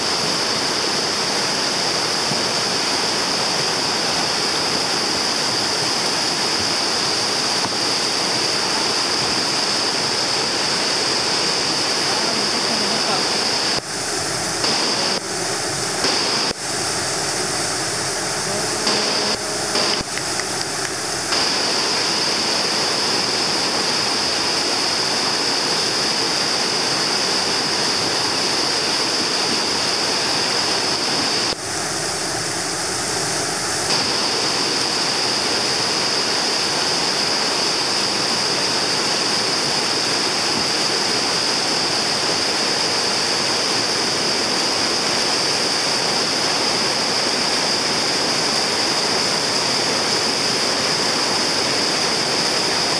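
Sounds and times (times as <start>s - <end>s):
river rapids rushing: 0.0s - 52.9s.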